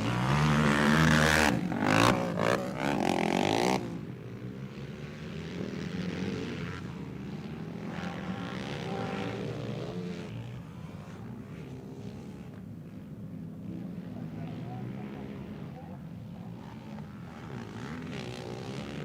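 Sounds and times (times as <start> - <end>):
distant quad engines revving: 0.0 - 19.0
loud quad engine passing: 0.0 - 19.0.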